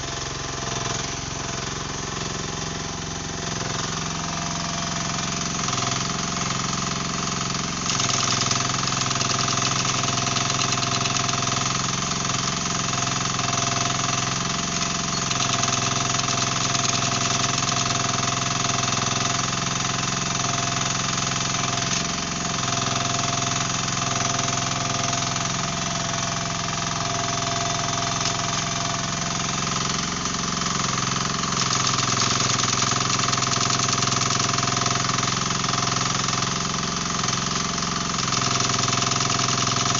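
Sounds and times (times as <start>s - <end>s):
excavator engine running: 0.0s - 39.9s
hydraulic breaker hammering concrete: 0.0s - 39.9s.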